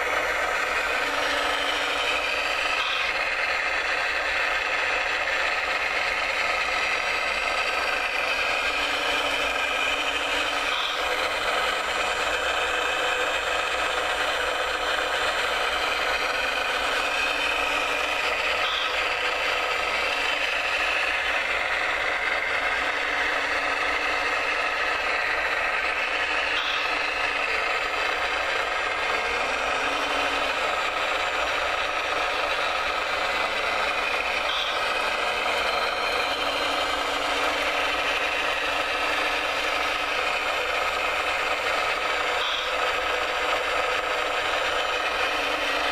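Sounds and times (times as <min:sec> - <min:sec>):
small electric motors whirring: 0:00.0 - 0:45.9.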